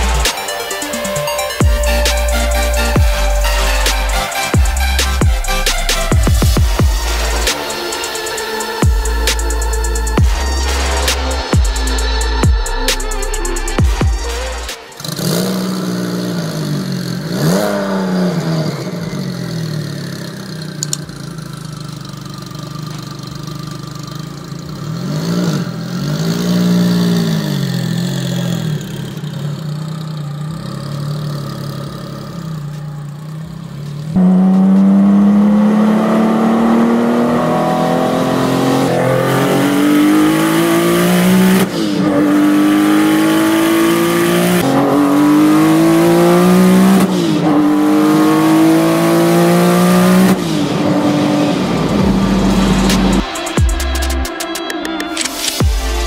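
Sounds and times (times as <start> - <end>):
sports car engine revving: 0.0 - 54.5.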